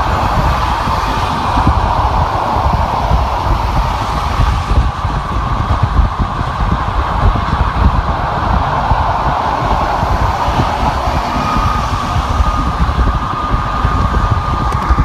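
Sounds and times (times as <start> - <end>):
car road noise at speed: 0.0 - 15.0.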